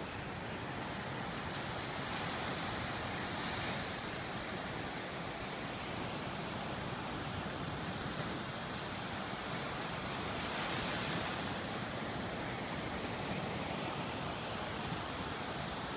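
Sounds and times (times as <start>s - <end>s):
ocean surf breaking on beach: 0.0s - 15.9s.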